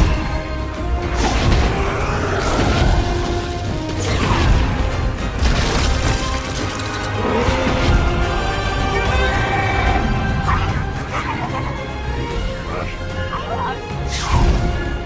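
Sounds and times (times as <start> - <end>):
orchestral film score: 0.0 - 15.0.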